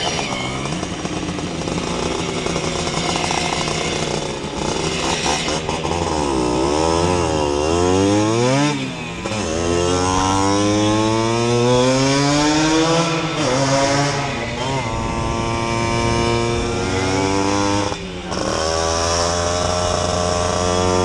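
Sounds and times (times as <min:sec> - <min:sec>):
two-stroke moped engine revving: 0:00.0 - 0:21.0.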